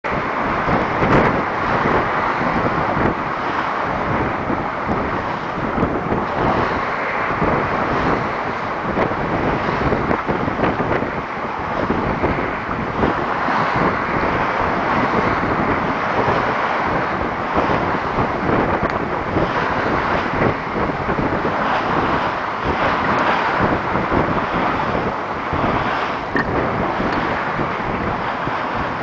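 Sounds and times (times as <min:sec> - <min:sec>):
water rushing along hull: 0:00.0 - 0:29.0
wind buffeting microphone: 0:00.0 - 0:29.0.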